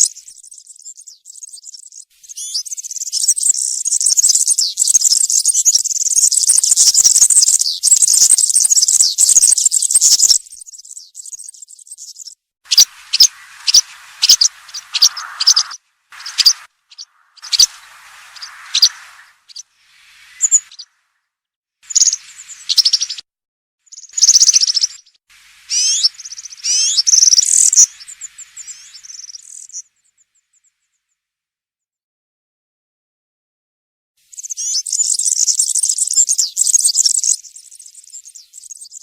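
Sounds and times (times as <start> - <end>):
bird singing jingling song: 0.0 - 20.9, 21.9 - 23.2, 23.9 - 25.1, 25.7 - 29.9, 34.4 - 39.0.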